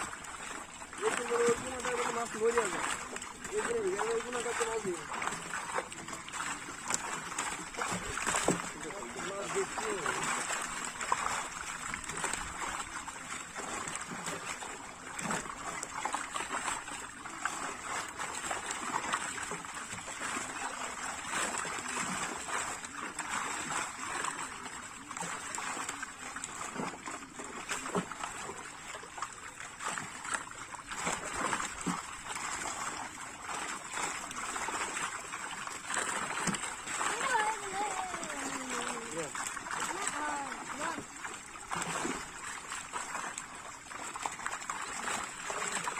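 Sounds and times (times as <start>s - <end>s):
fish thrashing and splashing: 0.0s - 45.9s
water sloshing: 0.0s - 45.9s.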